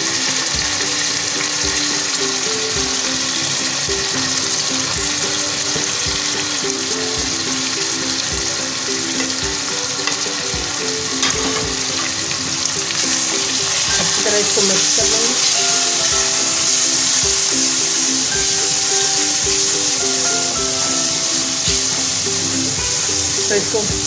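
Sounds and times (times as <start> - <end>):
simple background tune with beat: 0.0 - 24.0
vegetables sizzling in oil: 0.0 - 24.0.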